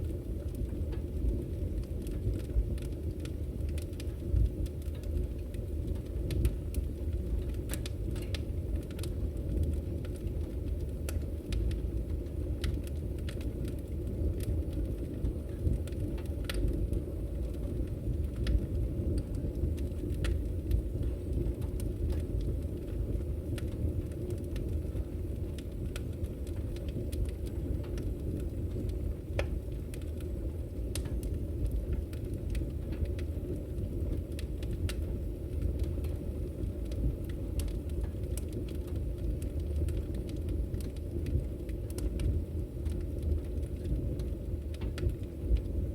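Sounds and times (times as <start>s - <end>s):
fire crackles and pops: 0.0s - 45.9s
fire rumbling: 0.0s - 45.9s.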